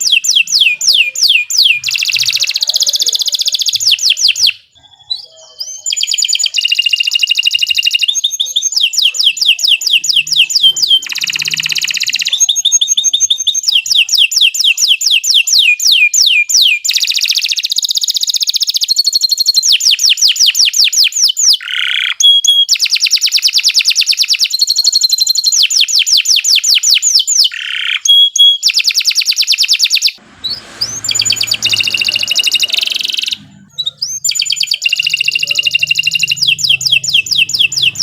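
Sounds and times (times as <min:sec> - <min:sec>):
canary singing trills: 0:00.0 - 0:38.0.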